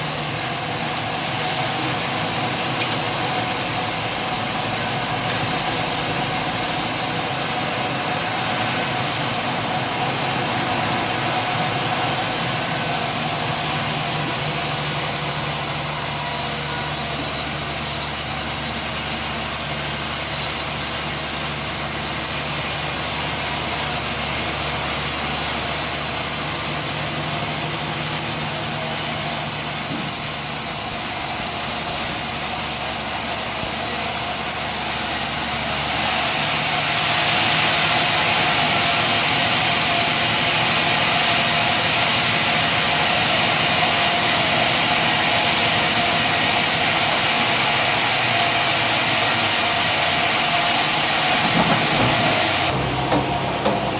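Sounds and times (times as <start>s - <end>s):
sawmill machinery running: 0.0s - 53.9s.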